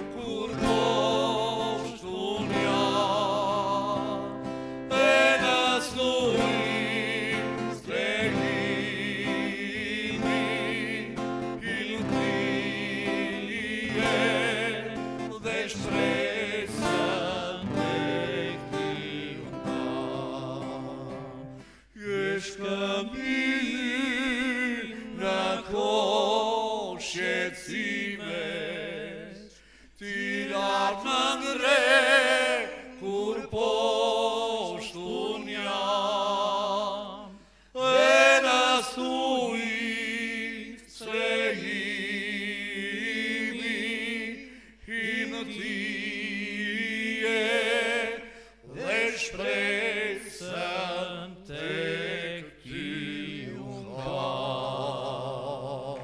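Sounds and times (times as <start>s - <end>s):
men singing in harmony: 0.0s - 56.0s.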